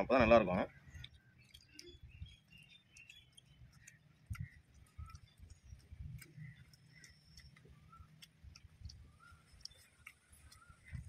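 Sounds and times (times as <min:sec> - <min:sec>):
small chewing clicks: 0:00.3 - 0:11.0.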